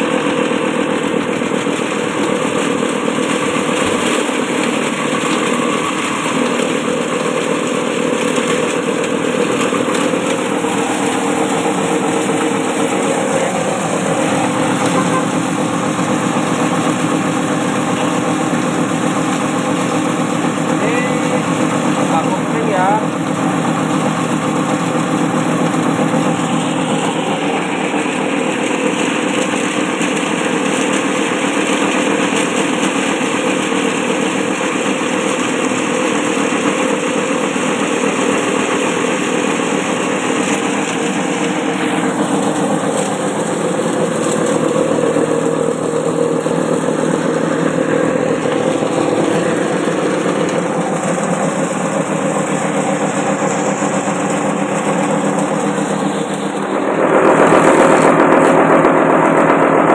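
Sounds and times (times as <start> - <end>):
electric mill humming and whirring: 0.0 - 59.9.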